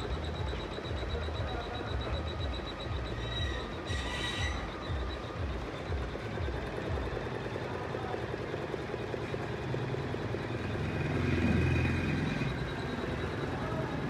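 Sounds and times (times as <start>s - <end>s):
embroidery machine stitching: 0.0s - 14.0s.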